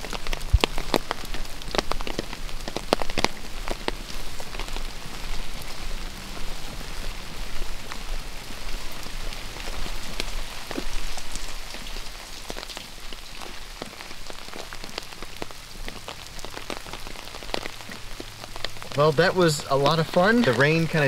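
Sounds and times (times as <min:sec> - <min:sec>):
raindrops tapping nearby: 0:00.0 - 0:21.0
steady rain hiss: 0:00.0 - 0:21.0.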